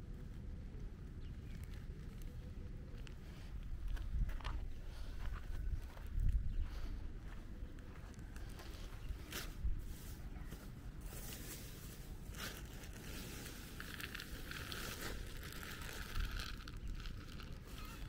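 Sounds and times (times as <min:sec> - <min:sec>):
rustling and crinkling handling: 0:00.0 - 0:18.0.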